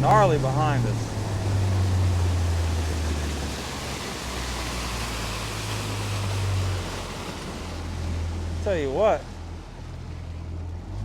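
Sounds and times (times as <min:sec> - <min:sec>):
boat motor drone: 0:00.0 - 0:11.0
wind and water rushing: 0:00.0 - 0:11.0.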